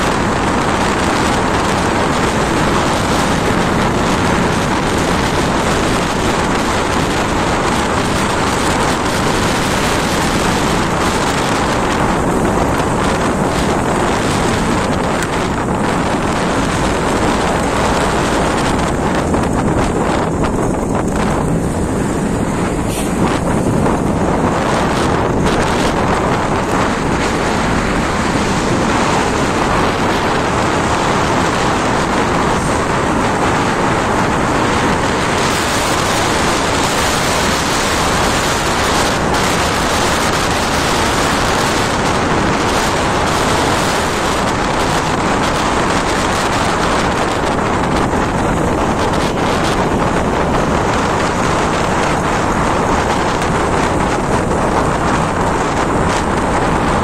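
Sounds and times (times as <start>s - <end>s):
road noise: 0.0s - 57.0s
wind rush on microphone: 0.0s - 57.0s.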